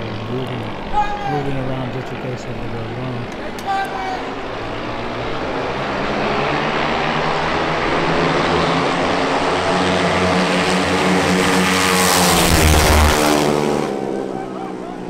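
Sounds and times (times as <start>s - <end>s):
minibike engines buzzing at high revs: 0.0s - 15.0s.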